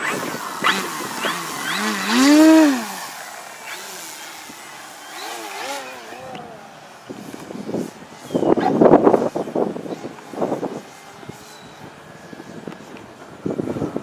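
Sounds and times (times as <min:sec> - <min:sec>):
model plane motor and propeller: 0:00.0 - 0:14.0.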